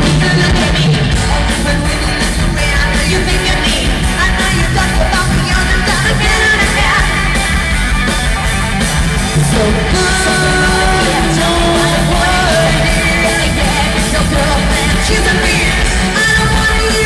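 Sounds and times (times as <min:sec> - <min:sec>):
live pop-rock band: 0:00.0 - 0:17.0.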